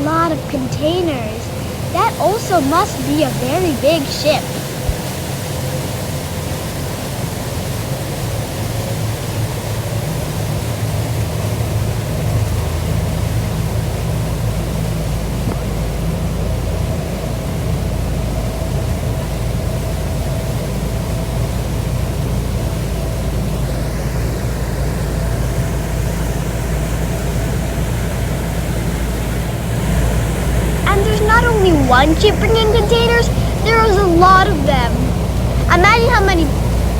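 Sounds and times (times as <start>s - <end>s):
faint steady hum: 0.0s - 36.9s
ferry engines droning: 0.0s - 36.9s.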